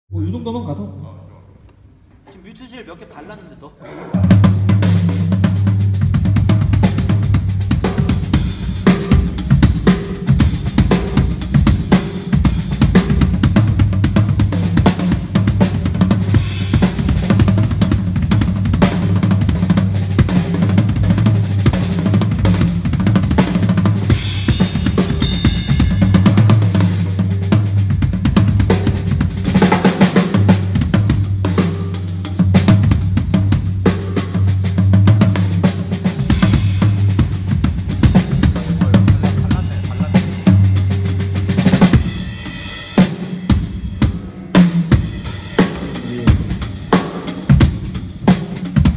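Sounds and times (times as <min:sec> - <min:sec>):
drum kit groove with cymbals: 0:04.1 - 0:48.9.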